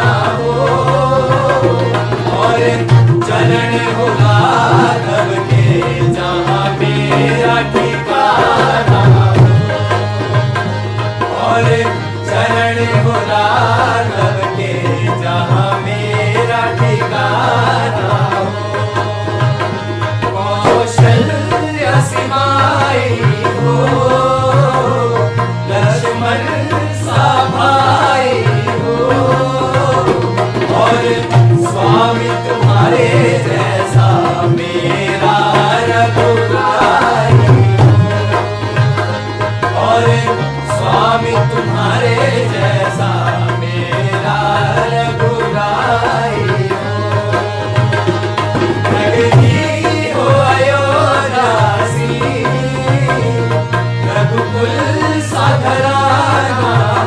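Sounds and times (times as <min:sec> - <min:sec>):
devotional song: 0:00.0 - 0:57.0.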